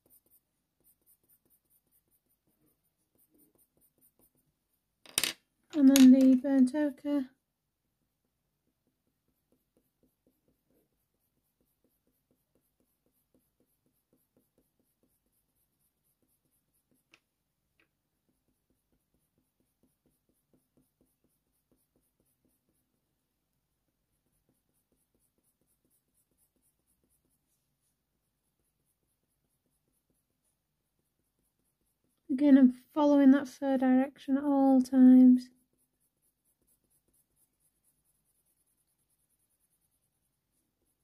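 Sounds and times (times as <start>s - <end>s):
pencil scratching on paper: 0.0s - 5.0s, 8.0s - 32.5s, 34.7s - 41.0s.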